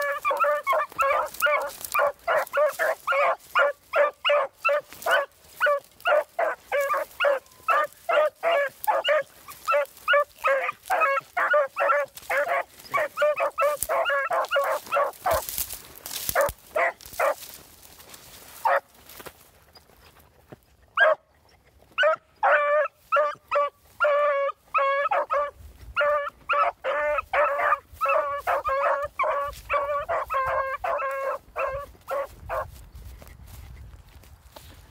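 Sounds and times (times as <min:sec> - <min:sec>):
puppies yelping bays: 0:00.0 - 0:17.4, 0:21.0 - 0:32.7.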